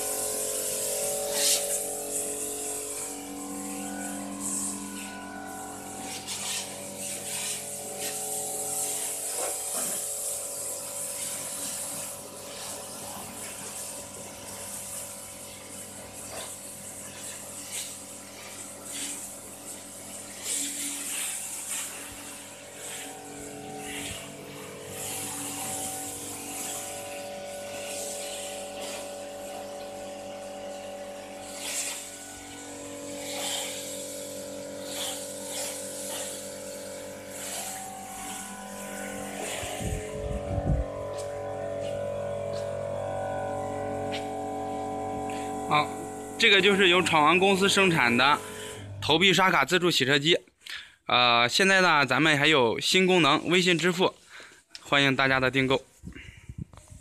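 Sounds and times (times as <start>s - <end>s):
water jet hissing on metal: 0.0s - 50.1s
pressure washer pump humming: 0.0s - 57.0s.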